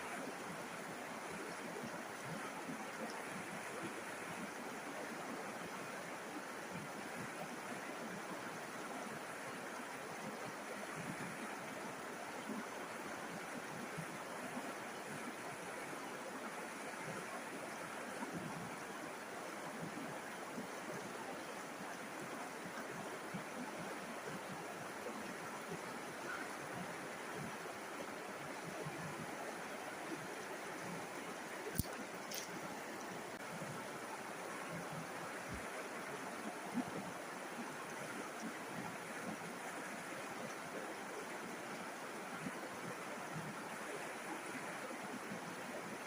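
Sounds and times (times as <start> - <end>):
river water splashing over stones: 0.0 - 46.0.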